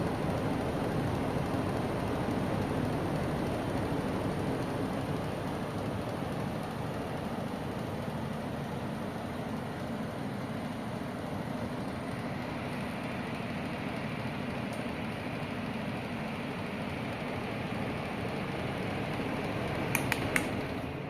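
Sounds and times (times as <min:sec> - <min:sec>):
electric fan whirring: 0:00.0 - 0:21.0.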